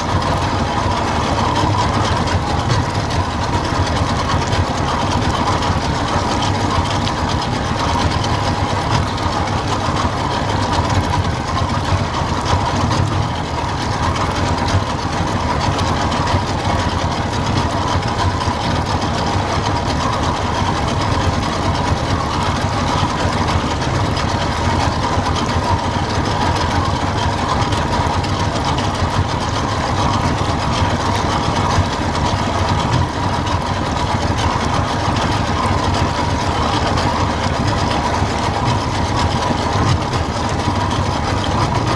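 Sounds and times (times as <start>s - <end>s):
boat motor droning: 0.0s - 41.9s.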